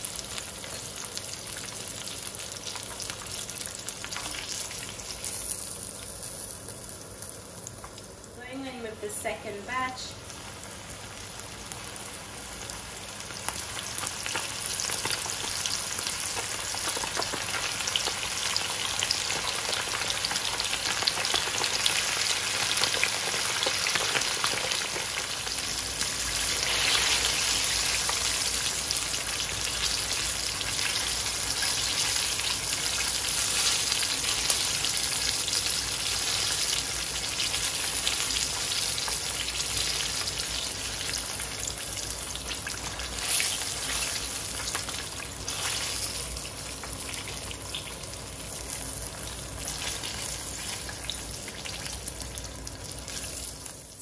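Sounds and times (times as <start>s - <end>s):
chicken wings frying in oil: 0.0s - 54.0s.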